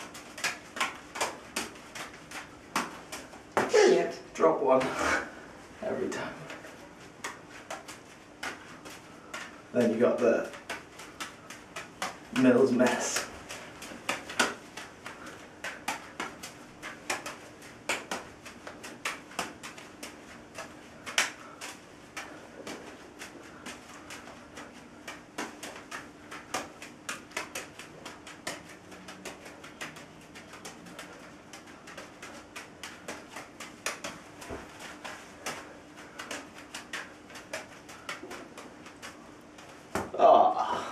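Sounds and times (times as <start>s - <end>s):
juggling balls slapping into hands: 0.0s - 40.9s.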